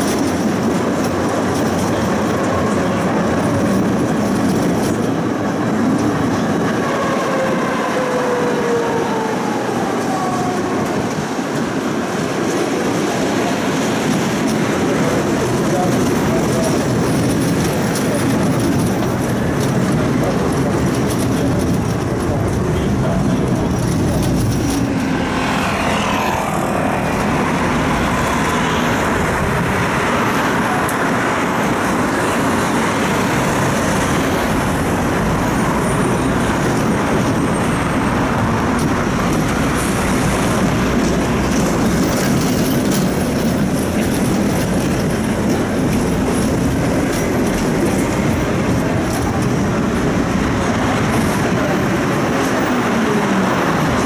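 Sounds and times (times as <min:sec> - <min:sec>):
tram motor whine: 0:00.0 - 0:54.0
tram wheels rumbling on rails: 0:00.0 - 0:54.0.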